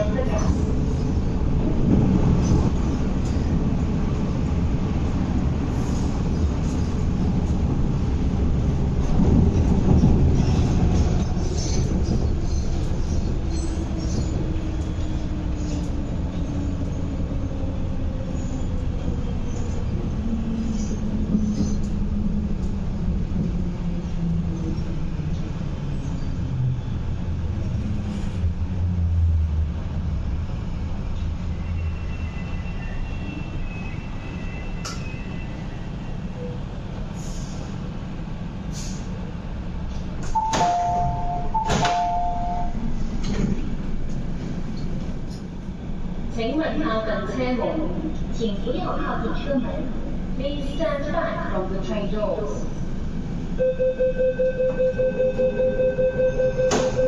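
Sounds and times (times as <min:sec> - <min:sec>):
wheel and track rumble: 0:00.0 - 0:31.8, 0:32.4 - 0:53.6.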